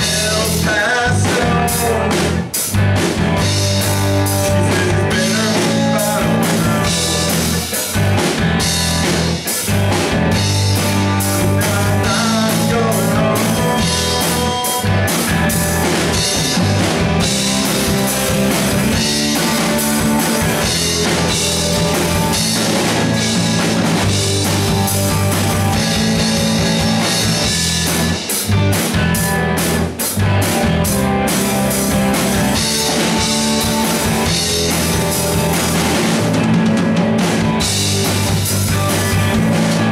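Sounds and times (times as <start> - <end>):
drum and cymbal hits: 0.0 - 39.9
electric guitars: 0.0 - 39.9.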